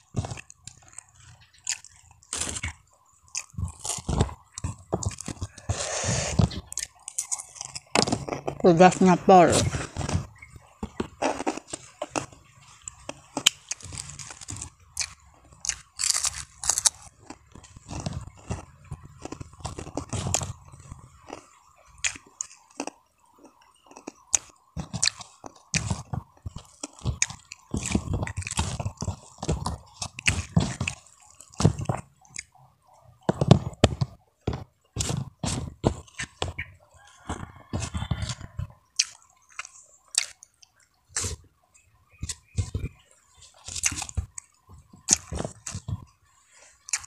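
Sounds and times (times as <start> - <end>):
chewing with crisp crunches: 0.0 - 47.0.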